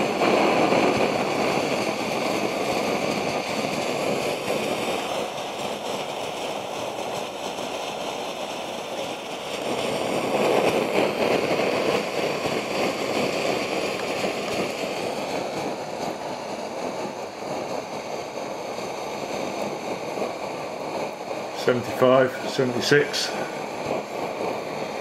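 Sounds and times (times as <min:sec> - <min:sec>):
stove burning with rushing hiss: 0:00.0 - 0:25.0.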